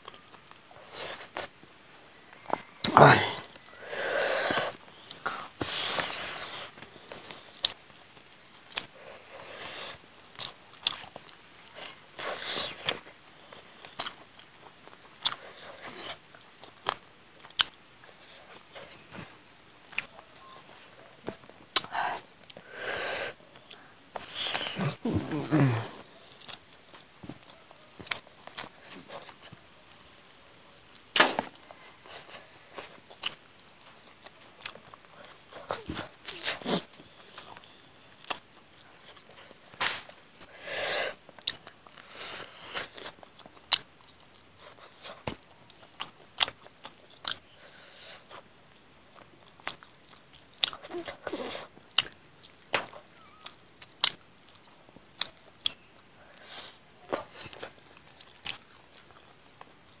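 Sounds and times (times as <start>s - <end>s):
person chewing food: 0.0s - 60.0s.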